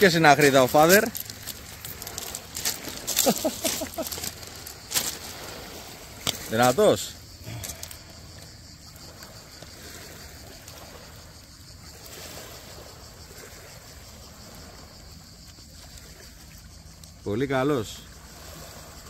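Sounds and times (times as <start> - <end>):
seawater washing: 0.0 - 19.0.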